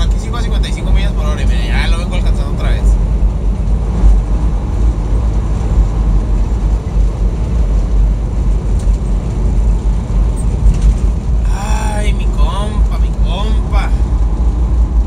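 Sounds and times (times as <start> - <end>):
road rumble: 0.0 - 15.0
truck engine drone: 0.0 - 15.0.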